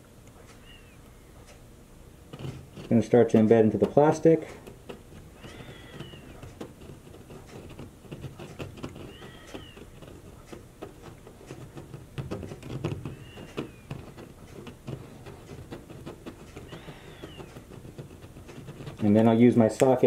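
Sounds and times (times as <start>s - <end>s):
plastic welder crackling: 2.3s - 20.0s.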